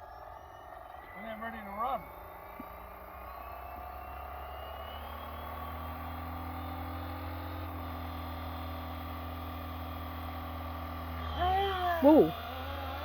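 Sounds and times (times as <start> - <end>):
electric helicopter motor whine: 0.0 - 13.0.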